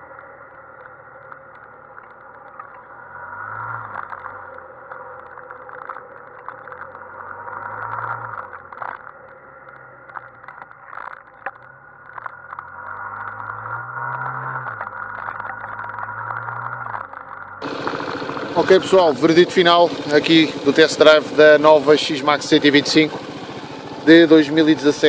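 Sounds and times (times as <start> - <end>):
wind and road noise: 0.0 - 25.0
scooter engine revving: 2.4 - 9.1, 10.1 - 25.0
short clicks and rattles: 3.8 - 25.0.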